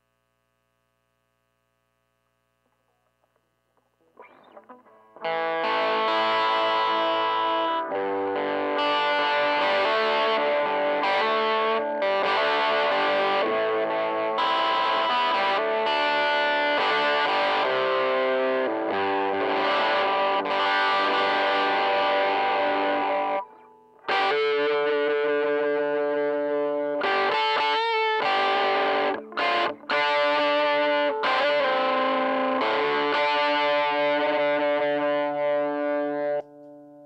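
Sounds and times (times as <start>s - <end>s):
distorted electric guitar: 2.4s - 37.0s.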